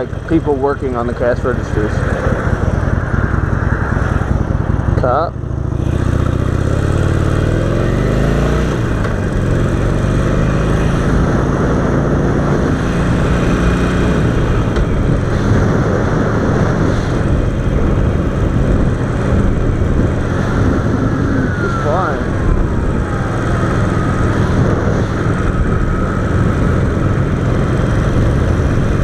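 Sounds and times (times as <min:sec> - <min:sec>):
motorcycle engine accelerating: 0:00.0 - 0:29.0
wind and road noise: 0:00.0 - 0:29.0.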